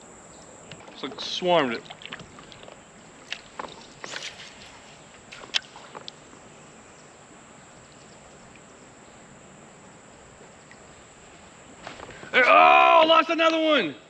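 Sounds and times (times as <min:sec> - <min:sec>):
flowing stream water: 0:00.0 - 0:12.3.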